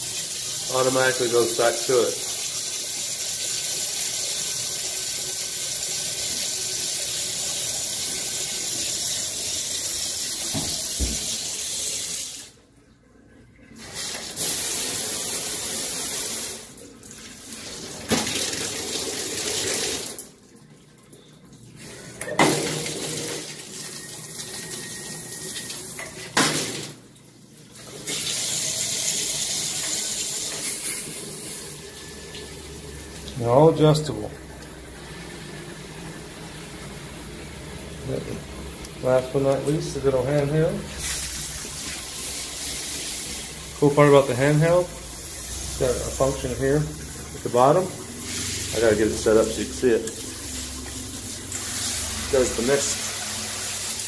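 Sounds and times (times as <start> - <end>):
shower water spraying: 0.0 - 12.6, 13.8 - 20.2, 27.9 - 33.4, 35.0 - 54.0.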